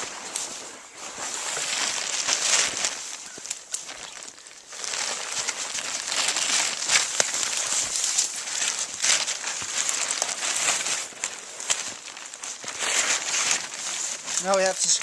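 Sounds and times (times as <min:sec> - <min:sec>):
tarp rustling and crinkling: 0:00.0 - 0:15.0.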